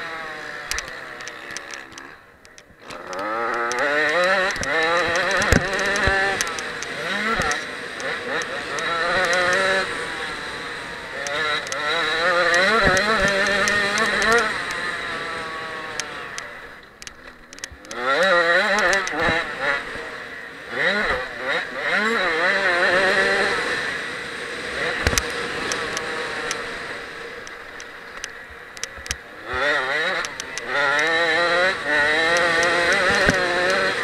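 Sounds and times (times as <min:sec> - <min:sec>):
motorcycle engine revving: 0:00.0 - 0:34.0
sharp ticks: 0:00.3 - 0:19.8, 0:24.8 - 0:34.0.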